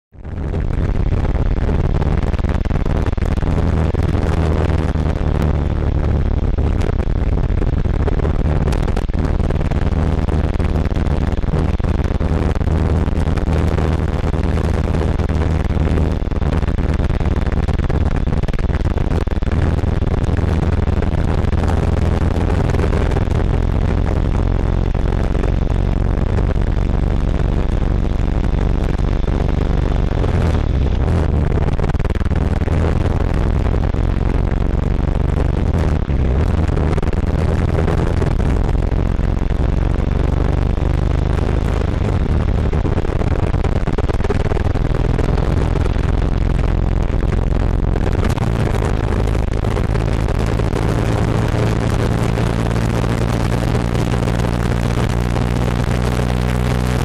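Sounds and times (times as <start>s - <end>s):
muffled distorted motorcycle engine: 0.0s - 57.0s.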